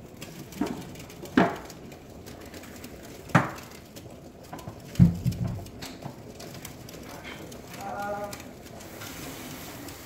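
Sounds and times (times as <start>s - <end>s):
faint kitchen room sound: 0.0s - 10.0s.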